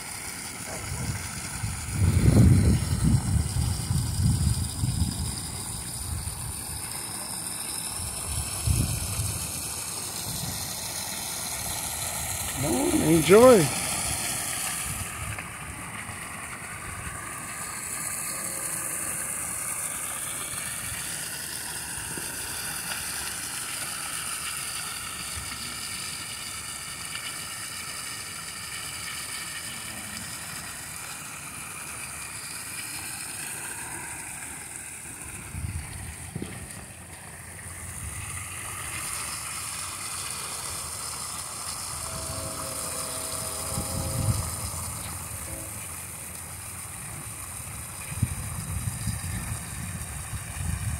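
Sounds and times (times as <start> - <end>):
water splashing into pool: 0.0 - 50.9.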